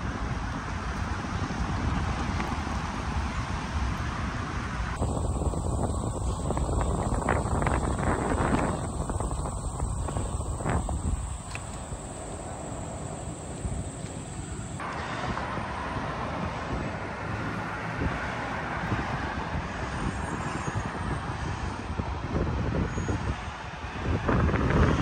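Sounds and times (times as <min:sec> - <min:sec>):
road traffic rushing: 0:00.0 - 0:25.0
wind buffeting microphone: 0:00.0 - 0:25.0.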